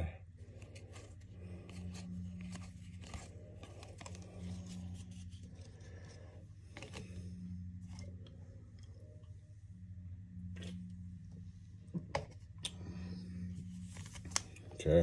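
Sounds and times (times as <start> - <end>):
steady low hum: 0.0 - 15.0
soft rustles of card packaging: 0.2 - 9.4, 10.4 - 15.0.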